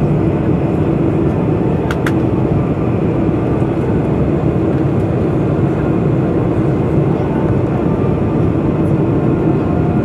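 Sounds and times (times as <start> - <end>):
jet engines and airflow rushing: 0.0 - 10.0.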